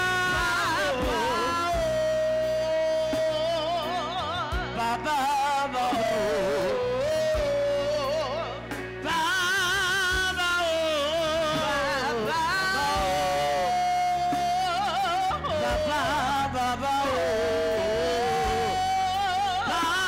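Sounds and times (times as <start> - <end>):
low musical accompaniment: 0.0 - 20.0
woman singing into microphone: 0.0 - 20.0.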